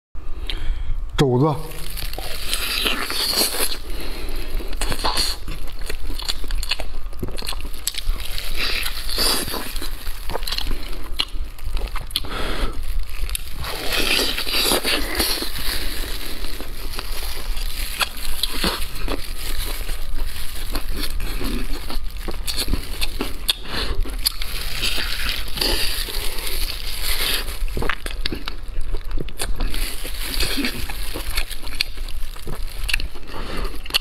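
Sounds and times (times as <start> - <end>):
chewing meat: 1.8 - 34.0.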